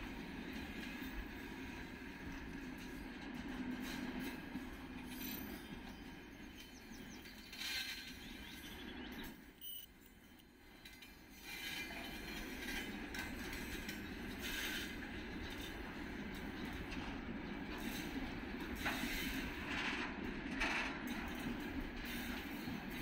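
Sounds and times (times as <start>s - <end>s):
freight train wheels clattering: 0.0s - 23.0s.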